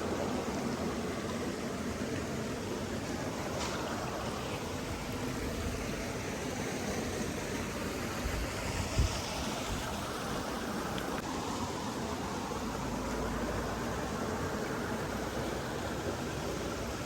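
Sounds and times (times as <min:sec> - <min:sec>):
stream running water: 0:00.0 - 0:17.0.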